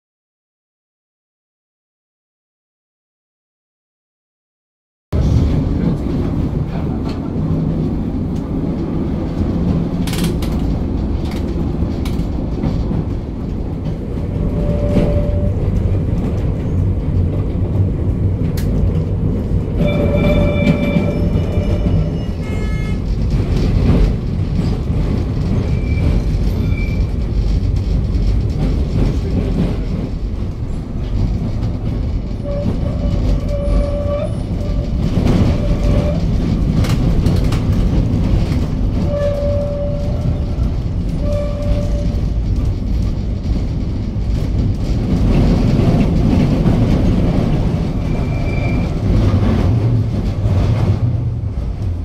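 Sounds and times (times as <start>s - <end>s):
tram wheels and motor rumbling: 5.1s - 52.0s.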